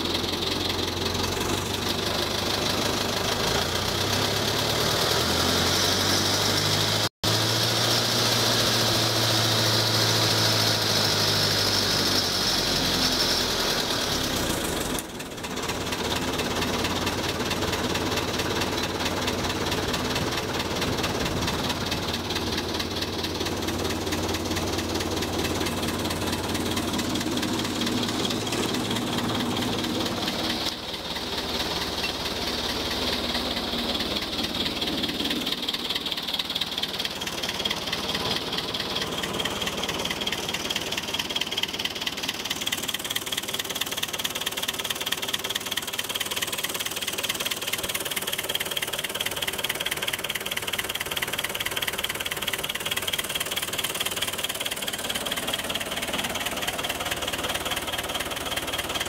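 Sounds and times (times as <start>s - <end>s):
tractor diesel engine clattering: 0.0s - 59.0s.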